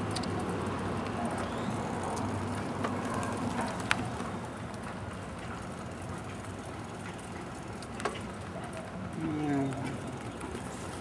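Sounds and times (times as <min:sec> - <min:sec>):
bicycle clicks: 0:00.0 - 0:11.0
bicycle rolling: 0:00.0 - 0:11.0.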